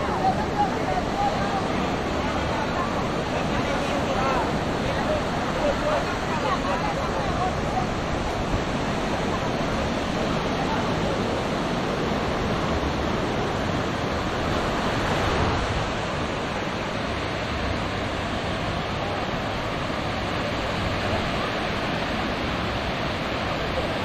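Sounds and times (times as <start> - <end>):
small waves breaking on shore: 0.0 - 24.0.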